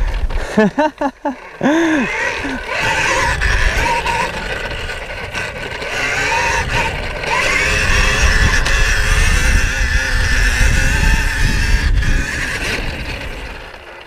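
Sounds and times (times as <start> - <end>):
electric motorbike motor whining: 0.0 - 14.0
wind rumble: 1.9 - 13.8.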